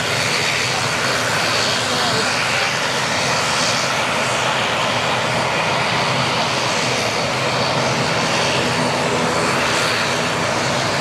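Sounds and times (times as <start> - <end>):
turboprop engine and propeller noise: 0.0 - 11.0.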